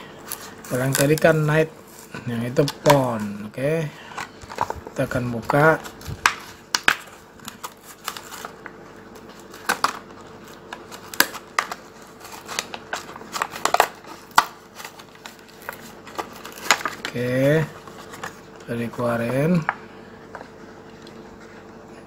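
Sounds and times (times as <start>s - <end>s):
plastic blister pack crinkling: 0.1s - 21.3s.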